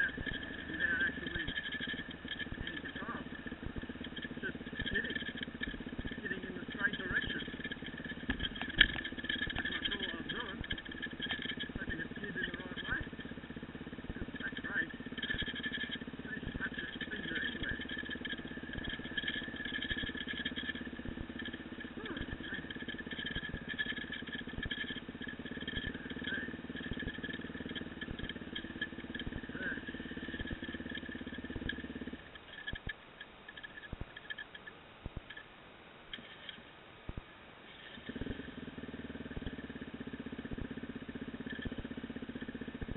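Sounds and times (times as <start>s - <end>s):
bike knocking and rattling: 0.0s - 35.5s, 36.1s - 42.9s
dirt bike engine running: 0.0s - 35.5s, 36.1s - 42.9s.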